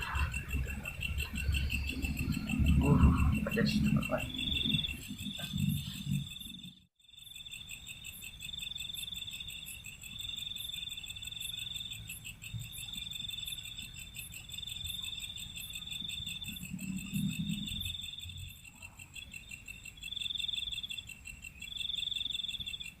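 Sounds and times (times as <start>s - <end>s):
night insects trilling: 0.0s - 23.0s.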